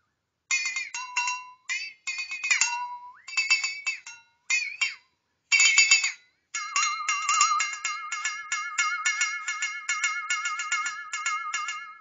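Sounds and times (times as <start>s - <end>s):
flexatone rattling: 0.5s - 12.0s.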